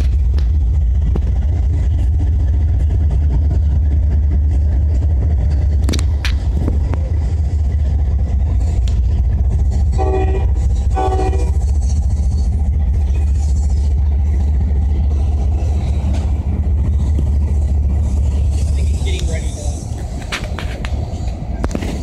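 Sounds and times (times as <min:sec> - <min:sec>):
freight train rumbling on rails: 0:00.0 - 0:22.0
sharp clacks of train: 0:00.0 - 0:22.0.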